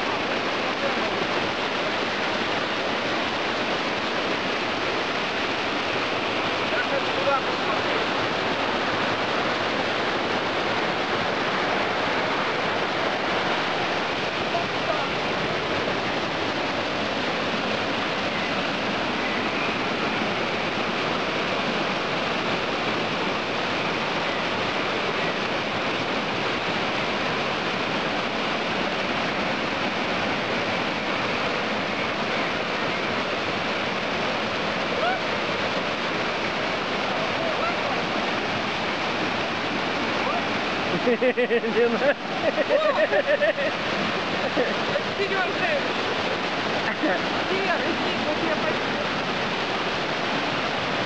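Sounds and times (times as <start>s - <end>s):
river rushing over rocks: 0.0s - 51.0s.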